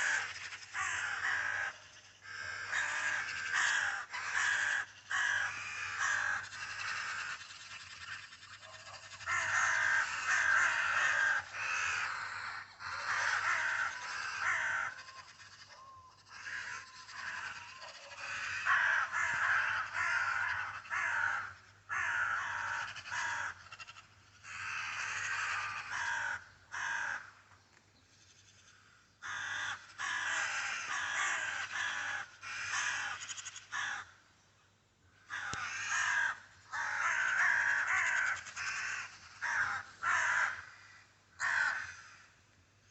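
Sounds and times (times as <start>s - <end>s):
crows calling harshly: 0.0s - 27.6s, 28.2s - 34.3s, 35.1s - 42.6s.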